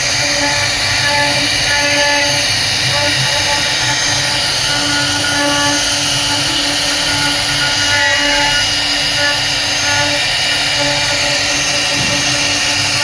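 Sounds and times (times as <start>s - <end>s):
cnc router cutting wood: 0.0s - 13.0s.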